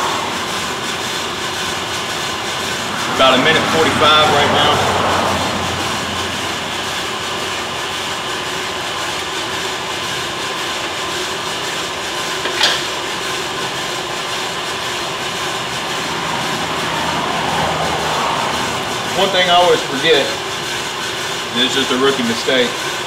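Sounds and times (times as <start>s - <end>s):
coffee roaster drum running: 0.0s - 23.0s.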